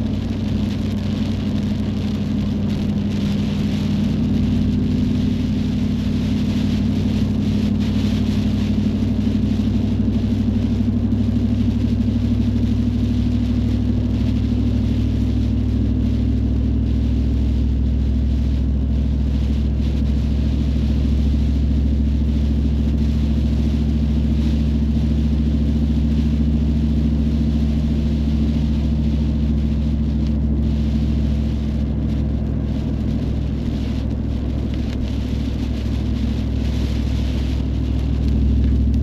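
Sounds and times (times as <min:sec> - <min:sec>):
car engine and road drone: 0:00.0 - 0:39.0
tyres hissing on wet road: 0:00.0 - 0:39.0.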